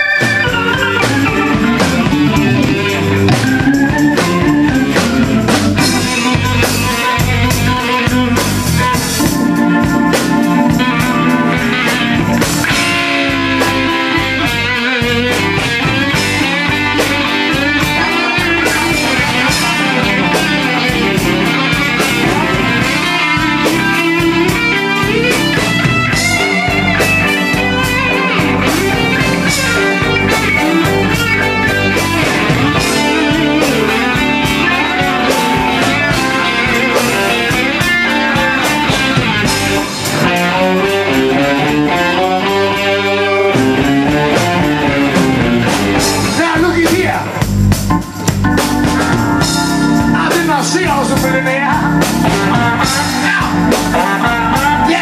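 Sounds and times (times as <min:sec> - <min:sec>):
drums: 0:00.0 - 0:55.0
electric guitar solo: 0:00.0 - 0:55.0
rhythm guitar: 0:00.0 - 0:55.0.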